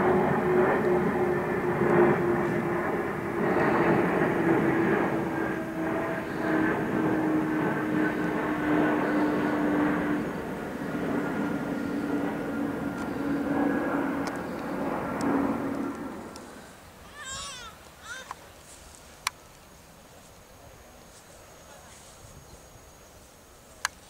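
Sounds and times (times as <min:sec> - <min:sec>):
aircraft engine droning: 0:00.0 - 0:24.0.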